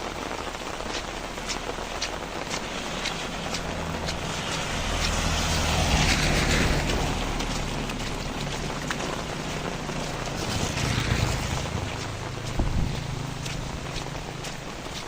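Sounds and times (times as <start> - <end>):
heavy rain falling: 0.0 - 15.0
raindrops ticking close by: 0.0 - 15.0
wind buffeting microphone: 1.0 - 14.9.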